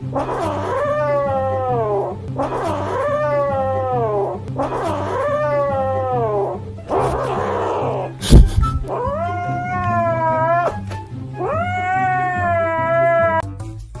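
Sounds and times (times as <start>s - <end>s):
background music with bass line: 0.0s - 14.0s
cat yowling: 0.2s - 8.2s, 8.8s - 10.8s, 11.4s - 13.4s.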